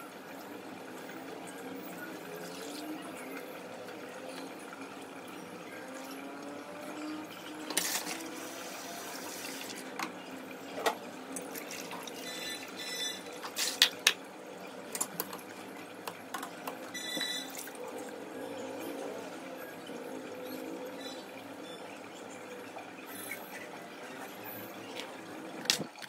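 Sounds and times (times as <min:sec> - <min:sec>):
water running from tap: 0:00.0 - 0:26.0.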